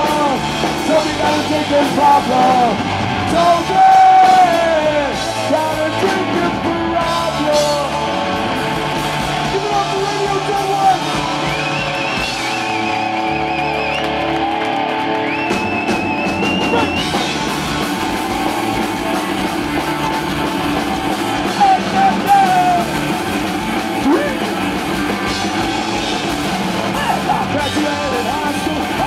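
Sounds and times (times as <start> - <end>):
punk rock band playing: 0.0 - 29.0.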